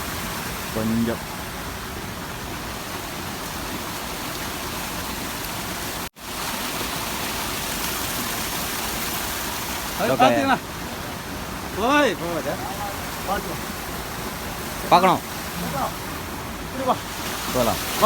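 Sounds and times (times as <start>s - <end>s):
fast-flowing river water: 0.0s - 18.0s.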